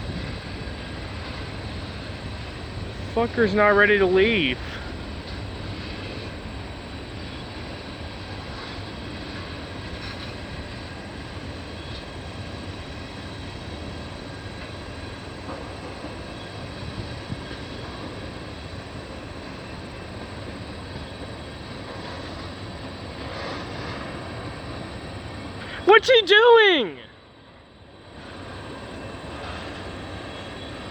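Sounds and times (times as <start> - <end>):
distant diesel locomotive rumble: 0.0 - 25.9, 27.1 - 30.9.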